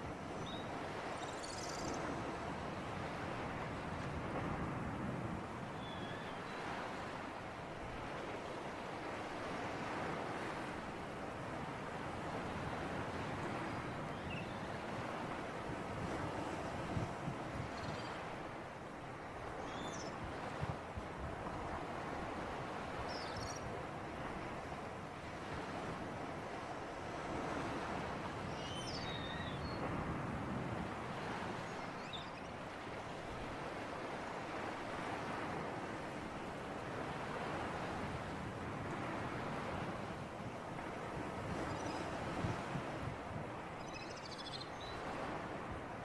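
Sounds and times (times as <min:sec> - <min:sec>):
sea surf washing on shore: 0:01.8 - 0:43.8, 0:44.9 - 0:46.0.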